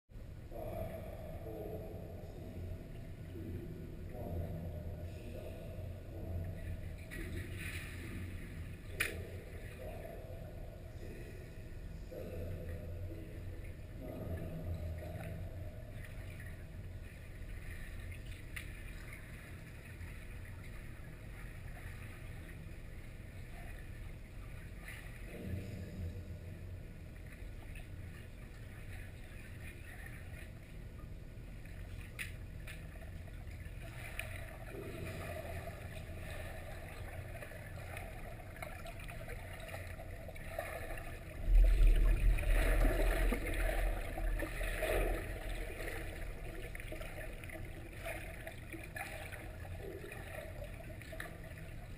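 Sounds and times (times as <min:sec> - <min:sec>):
low churning rumble: 0:00.1 - 0:51.9
muffled underwater hum and hiss: 0:00.4 - 0:51.9.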